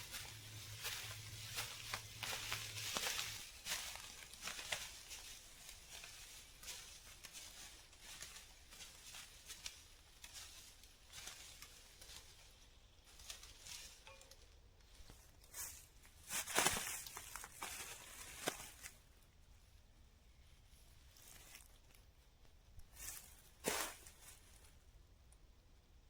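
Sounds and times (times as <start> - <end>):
soft crackles: 0.0 - 19.4, 20.3 - 25.5.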